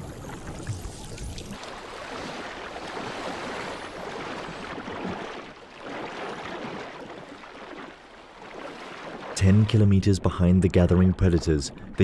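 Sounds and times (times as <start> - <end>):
sea water rushing and splashing: 0.0 - 12.0.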